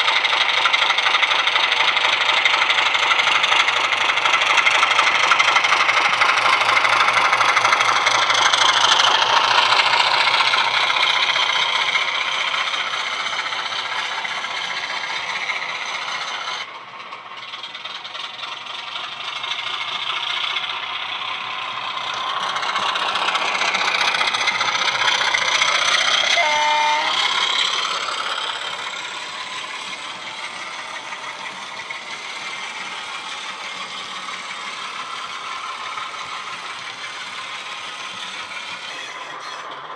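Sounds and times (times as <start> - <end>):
model train diesel engine sound: 0.0 - 39.9
wheels rattling on track: 0.0 - 39.9.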